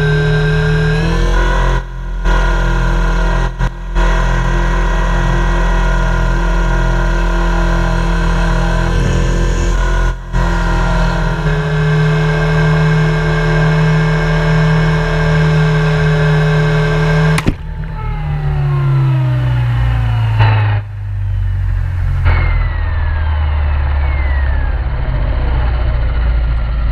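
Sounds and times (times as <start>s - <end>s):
helicopter drone winding down: 0.0s - 26.9s.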